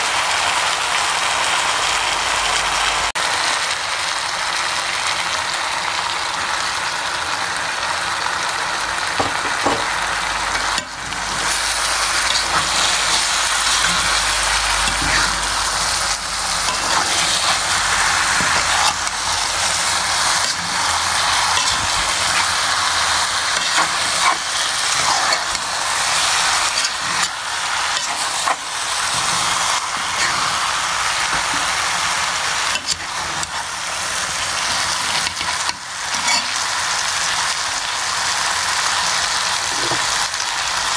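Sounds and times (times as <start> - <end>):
food sizzling in oil: 0.0 - 40.9.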